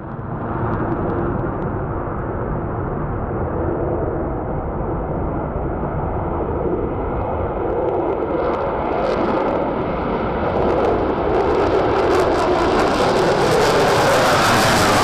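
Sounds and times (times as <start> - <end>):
jet engine roar at takeoff: 0.0 - 15.0.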